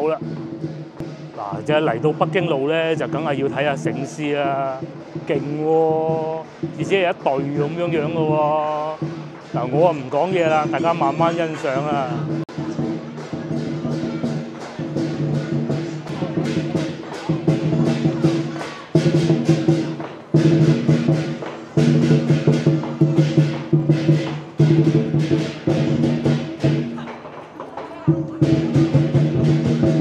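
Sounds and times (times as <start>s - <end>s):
cymbals crashing: 0.0s - 27.3s, 28.0s - 30.0s
drum beating: 0.0s - 30.0s.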